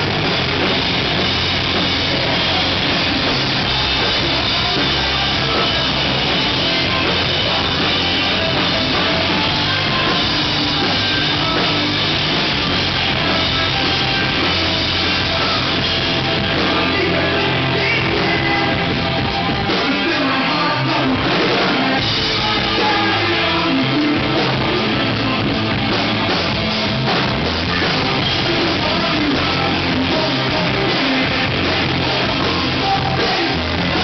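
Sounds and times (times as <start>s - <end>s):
bass guitar: 0.0s - 34.0s
drum kit: 0.0s - 34.0s
electric guitars: 0.0s - 34.0s.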